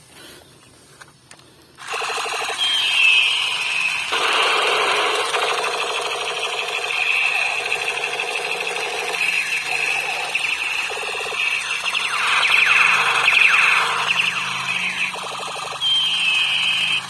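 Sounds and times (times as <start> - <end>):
toy gun electronic pulsing tone: 1.8 - 17.0.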